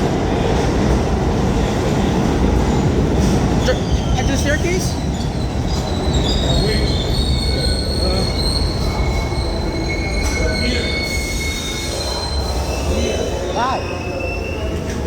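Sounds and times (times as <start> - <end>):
low train rumble: 0.0 - 15.0
train wheels squealing on rails: 1.6 - 15.0.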